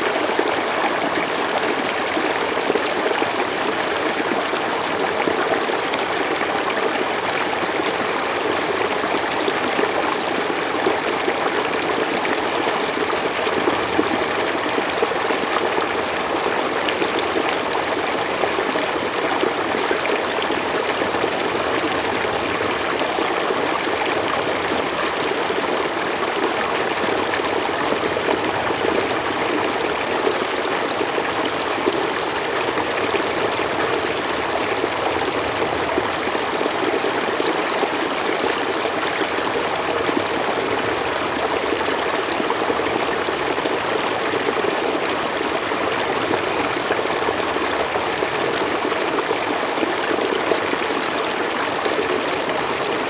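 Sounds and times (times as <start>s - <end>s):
stream water flowing over rocks: 0.0s - 53.0s.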